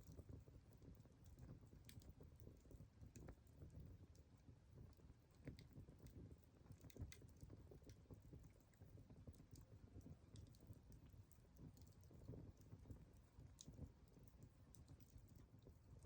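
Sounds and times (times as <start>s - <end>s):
low fire rumble: 0.0s - 16.0s.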